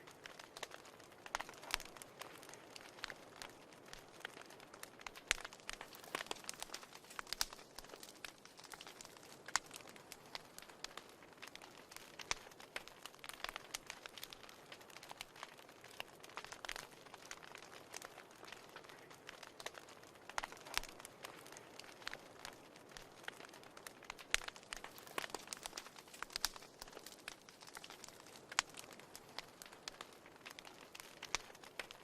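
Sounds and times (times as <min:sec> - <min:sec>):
fire crackling and popping: 0:00.0 - 0:32.0
soft steady hiss: 0:00.0 - 0:32.0.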